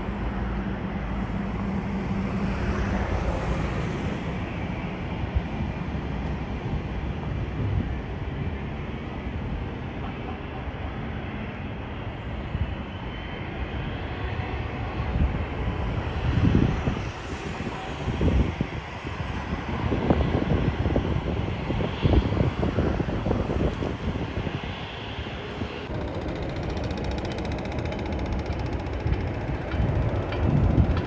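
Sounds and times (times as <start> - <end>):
airliner engines: 0.0 - 31.0
low rumbling surges: 0.0 - 31.0.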